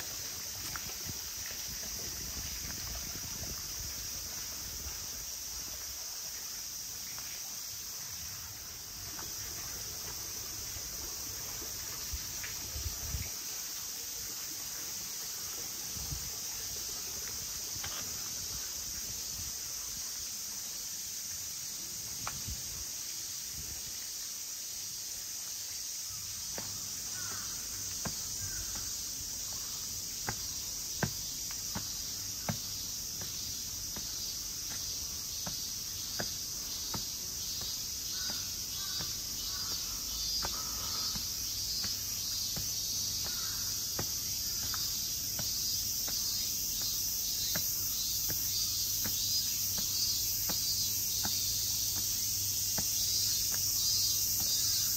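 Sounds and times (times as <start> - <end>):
insects chorus: 0.0 - 54.9.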